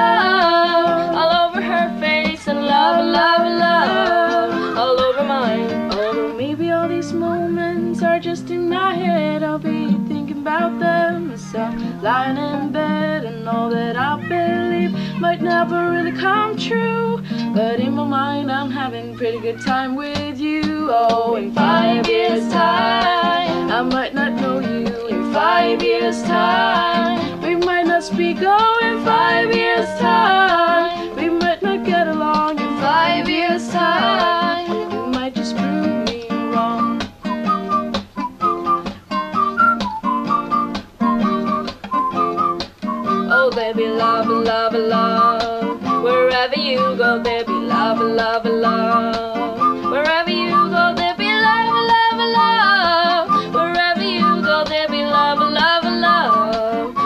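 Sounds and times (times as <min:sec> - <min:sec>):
person singing: 0:00.0 - 0:38.0, 0:41.4 - 0:57.0
plucked acoustic guitar: 0:00.0 - 0:57.0.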